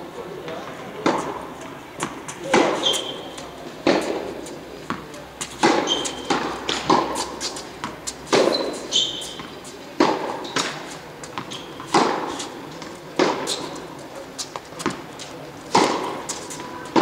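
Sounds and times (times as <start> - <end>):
shoes squeaking on court: 0.4 - 17.0
tennis ball bouncing: 0.4 - 17.0
racket hitting tennis ball: 1.0 - 17.0.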